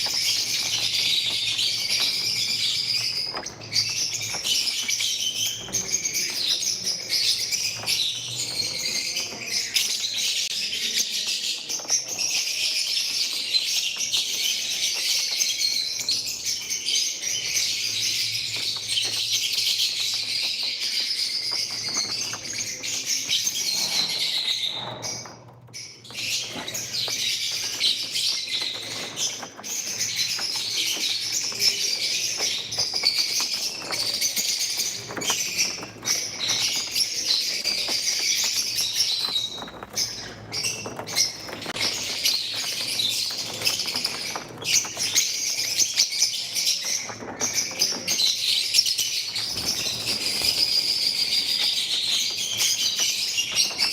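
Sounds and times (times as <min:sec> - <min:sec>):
lovebirds chirping: 0:00.0 - 0:53.9.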